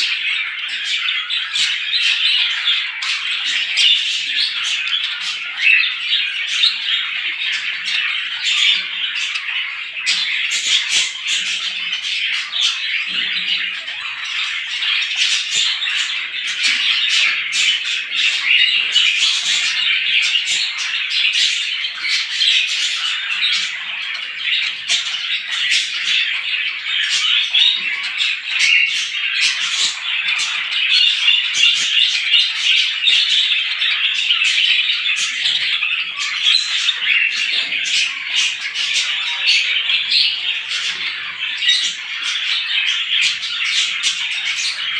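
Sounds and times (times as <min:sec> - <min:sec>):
flock of small birds chirping: 0:00.0 - 0:44.9.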